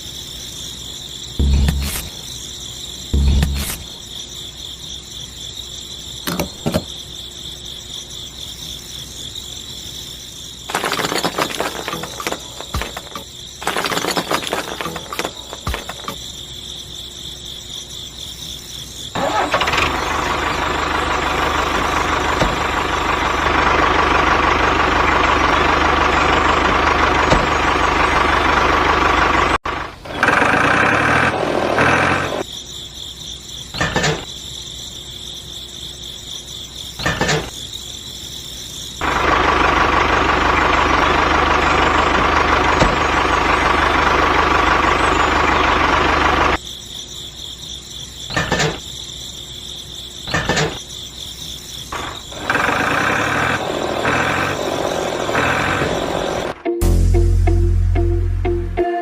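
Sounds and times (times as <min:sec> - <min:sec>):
crickets chirping: 0:00.0 - 0:56.8.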